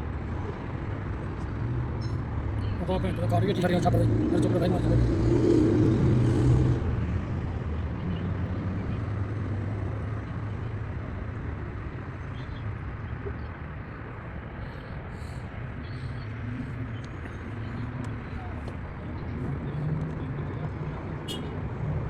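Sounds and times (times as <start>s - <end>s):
car engine humming: 0.2s - 22.0s.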